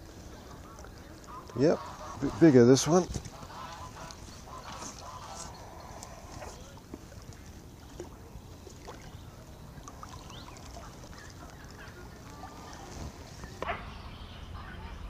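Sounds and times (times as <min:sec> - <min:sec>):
water splashing and dripping: 0:00.0 - 0:13.7.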